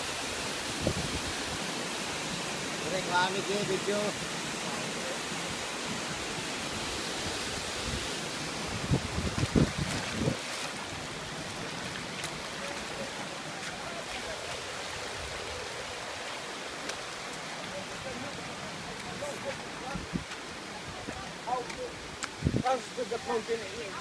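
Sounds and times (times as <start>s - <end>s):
stream water running over rocks: 0.0s - 24.0s.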